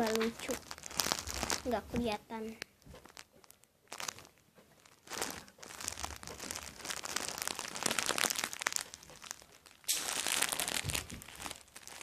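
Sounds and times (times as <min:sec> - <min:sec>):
plastic toy crinkling: 0:00.0 - 0:12.0.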